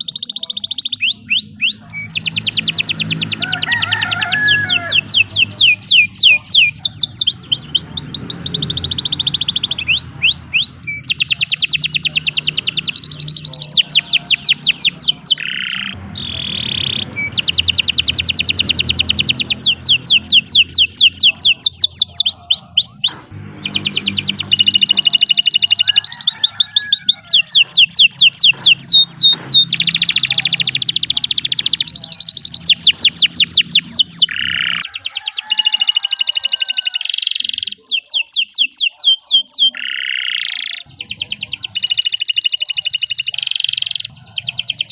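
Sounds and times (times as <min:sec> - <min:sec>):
canary singing fast trills: 0:00.0 - 0:44.9.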